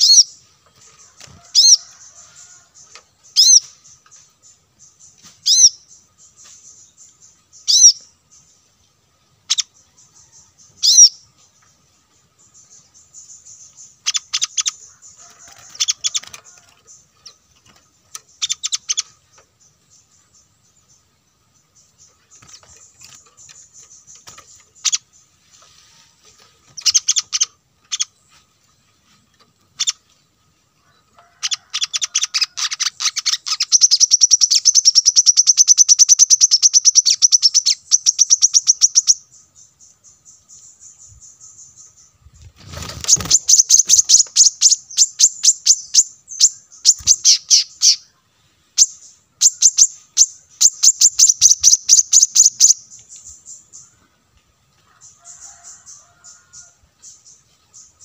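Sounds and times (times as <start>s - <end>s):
bird chirping and trilling: 0.0s - 8.6s, 9.4s - 11.3s, 12.4s - 25.2s, 26.7s - 28.2s, 29.7s - 30.1s, 31.4s - 48.2s, 48.8s - 53.9s.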